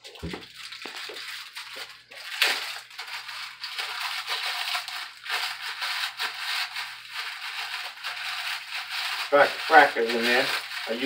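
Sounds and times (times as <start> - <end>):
crackers crushed in wrapper: 0.0 - 11.0.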